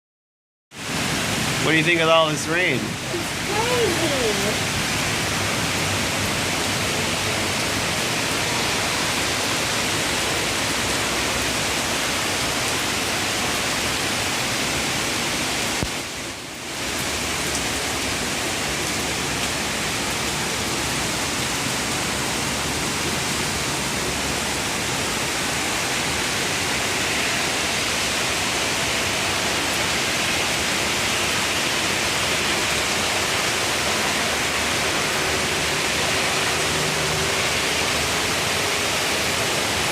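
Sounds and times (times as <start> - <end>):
heavy rain pouring: 0.8 - 39.9.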